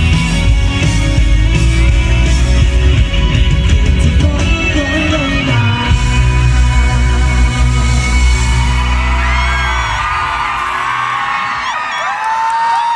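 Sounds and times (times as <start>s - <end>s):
rock band playing live: 0.0s - 11.9s.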